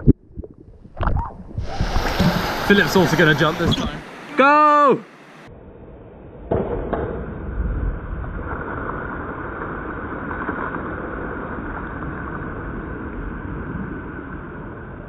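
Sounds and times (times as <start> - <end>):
muffled slowed water noise: 0.0 - 3.9, 5.5 - 15.0.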